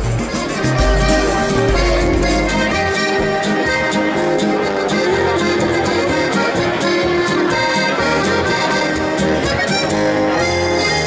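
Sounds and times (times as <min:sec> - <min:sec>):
accordion folk music: 0:00.0 - 0:11.0.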